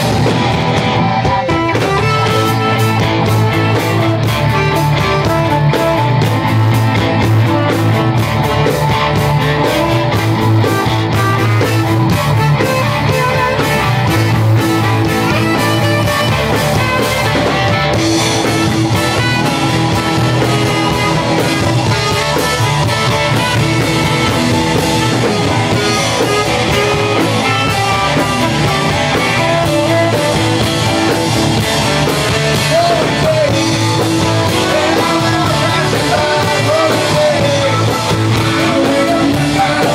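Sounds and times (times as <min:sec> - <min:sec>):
electric guitars: 0:00.0 - 0:39.9
live rock band playing: 0:00.0 - 0:39.9
saxophone: 0:01.2 - 0:08.7, 0:09.4 - 0:39.9.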